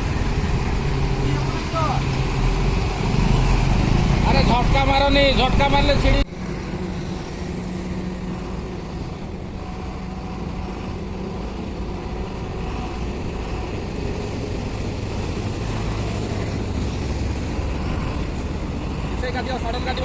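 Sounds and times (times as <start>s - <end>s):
diesel truck engine droning: 0.0s - 20.0s.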